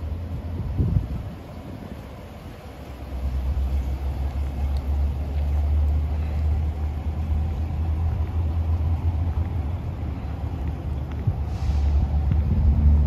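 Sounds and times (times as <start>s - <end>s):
pickup truck idling: 0.0s - 12.7s.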